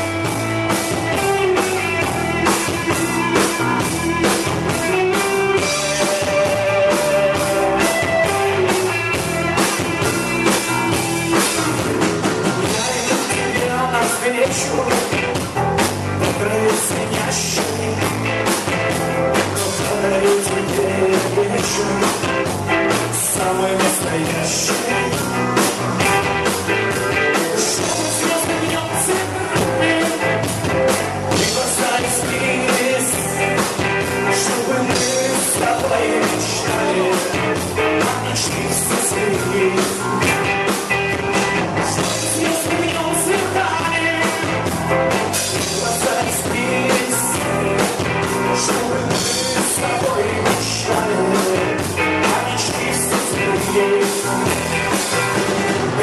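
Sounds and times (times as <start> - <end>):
rock band playing: 0.0 - 56.0
steady drum beat: 0.0 - 56.0.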